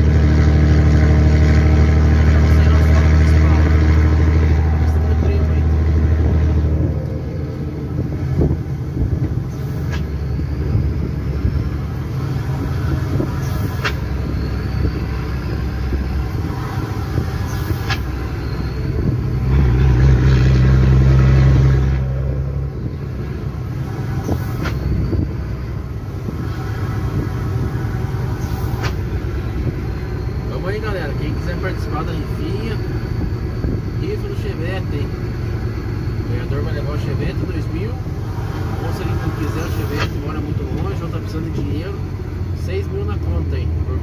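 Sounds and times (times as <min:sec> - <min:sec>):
truck diesel engine rumble: 0:00.0 - 0:44.0.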